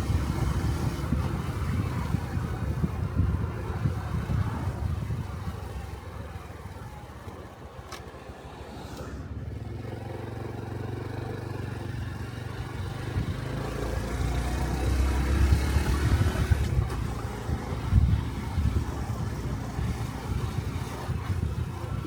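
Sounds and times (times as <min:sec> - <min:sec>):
motorcycle engine while riding: 0:00.0 - 0:22.0.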